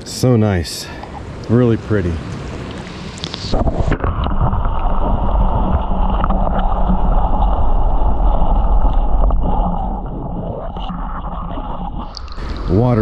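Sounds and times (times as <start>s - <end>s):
underwater rumble of moving water: 1.2s - 13.0s
water splash: 2.2s - 13.0s.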